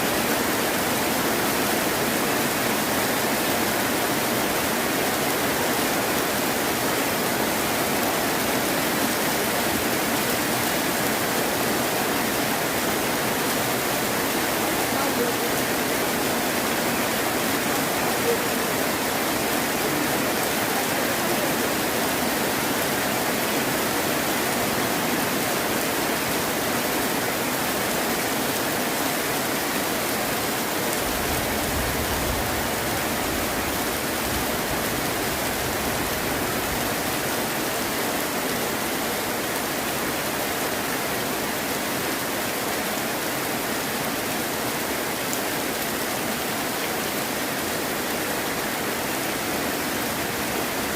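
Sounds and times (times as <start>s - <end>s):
heavy rain: 0.0s - 50.9s.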